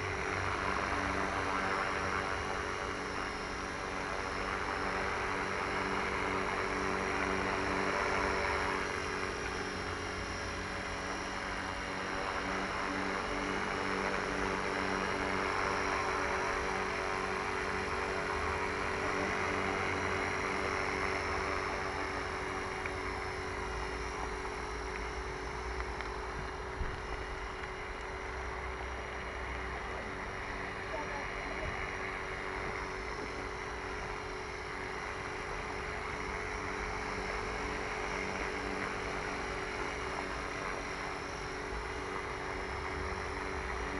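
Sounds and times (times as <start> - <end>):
small motor and propeller humming: 0.0 - 43.9.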